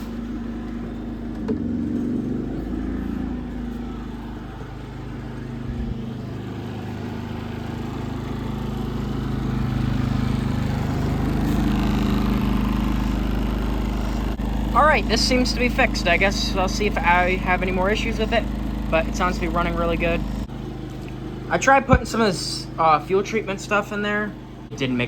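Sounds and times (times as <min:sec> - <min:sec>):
portable generator engine running: 0:00.0 - 0:25.0.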